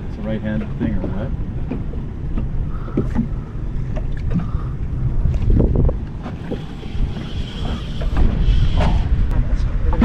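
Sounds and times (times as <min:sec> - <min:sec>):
water slapping against hull: 0:00.0 - 0:10.0
wind buffeting microphone: 0:00.0 - 0:10.0.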